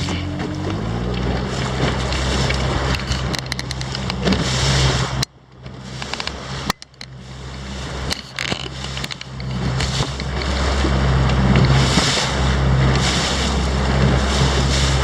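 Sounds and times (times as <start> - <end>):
hull knocking on waves: 0.0 - 15.0
outboard motor running: 0.0 - 15.0
water noise: 0.0 - 15.0
wind: 0.0 - 15.0.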